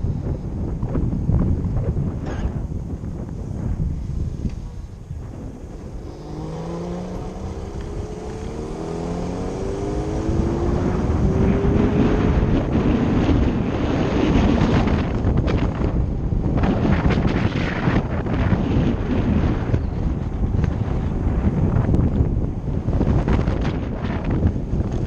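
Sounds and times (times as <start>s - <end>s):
motorcycle accelerating whine: 0.0s - 25.0s
wind on microphone: 0.0s - 25.0s.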